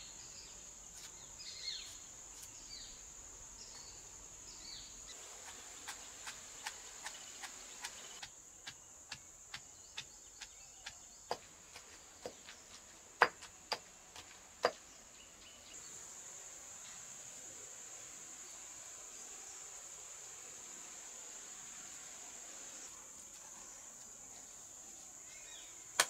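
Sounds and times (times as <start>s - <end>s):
insects humming: 0.0s - 26.0s.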